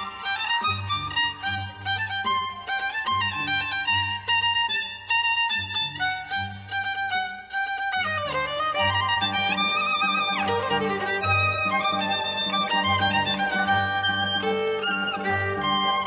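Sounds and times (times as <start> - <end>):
violin melody with sliding notes: 0.0 - 16.0.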